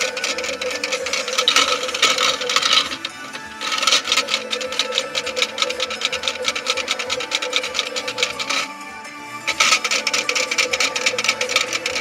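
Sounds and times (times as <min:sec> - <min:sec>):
toy washing machine running: 0:00.0 - 0:12.0.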